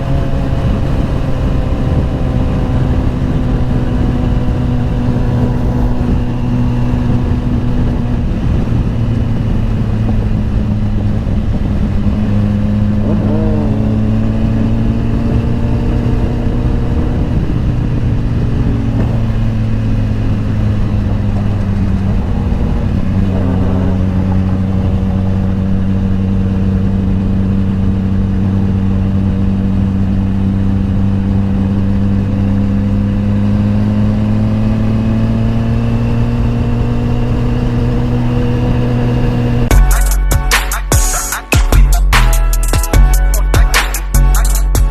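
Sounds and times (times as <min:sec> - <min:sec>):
wind noise: 0:00.0 - 0:39.7
motorcycle engine cruising: 0:00.0 - 0:40.4.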